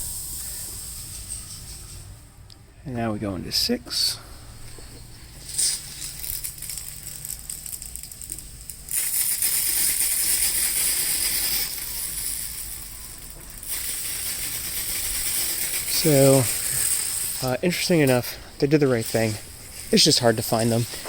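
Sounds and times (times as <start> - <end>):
sprinkler spraying water: 0.0 - 2.0, 5.3 - 21.0.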